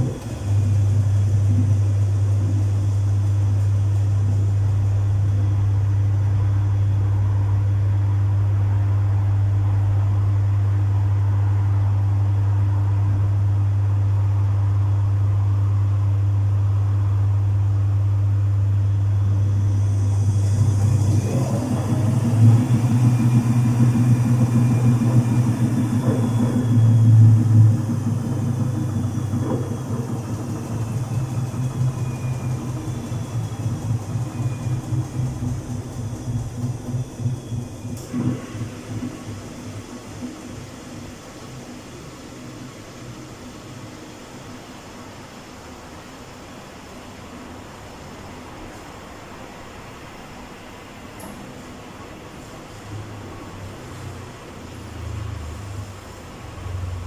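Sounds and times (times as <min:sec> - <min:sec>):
washing machine motor whining: 0:00.0 - 0:50.1
washing machine humming: 0:00.0 - 0:57.0.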